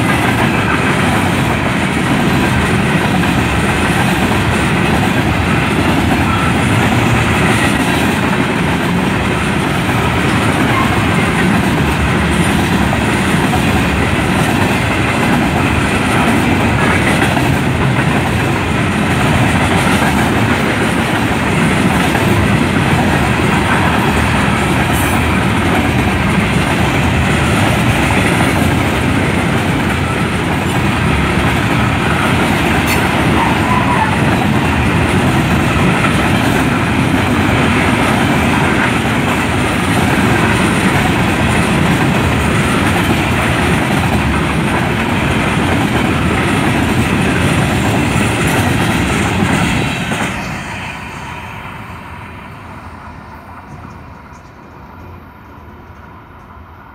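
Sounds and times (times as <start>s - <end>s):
steel wheels on rails: 0.0s - 56.8s
freight train rolling past: 0.0s - 56.9s.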